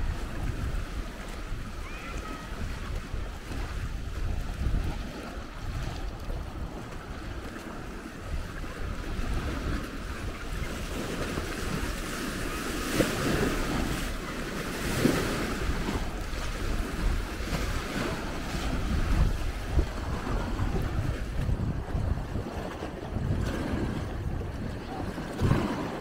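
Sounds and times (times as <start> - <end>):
lake waves lapping at shore: 0.0 - 26.0
water splashes: 0.0 - 26.0
wind buffeting microphone: 0.0 - 26.0.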